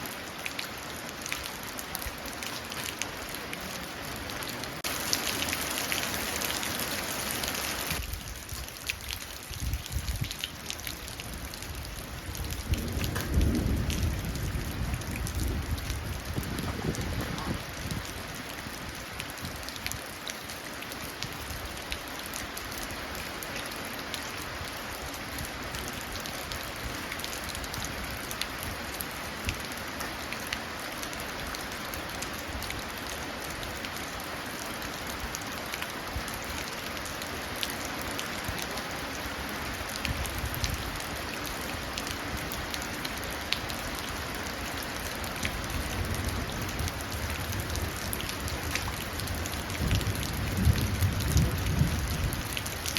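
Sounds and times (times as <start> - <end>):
rain falling into a puddle: 0.0 - 52.9.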